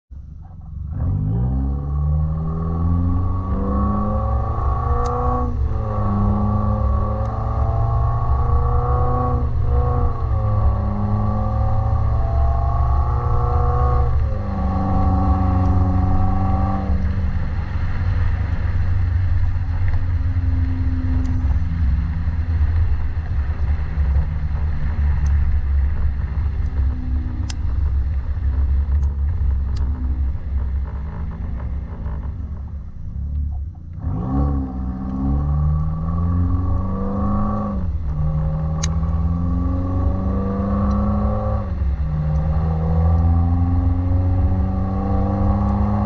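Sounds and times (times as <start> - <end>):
car engine from inside cabin: 0.1 - 46.0.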